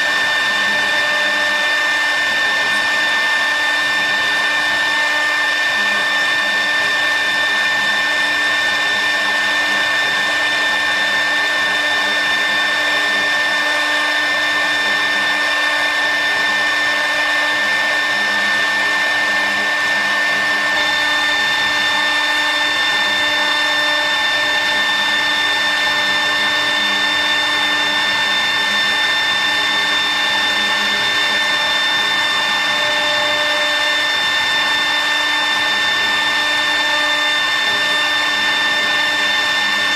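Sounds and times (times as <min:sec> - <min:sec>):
machine whirring with high whine: 0:00.0 - 0:39.9.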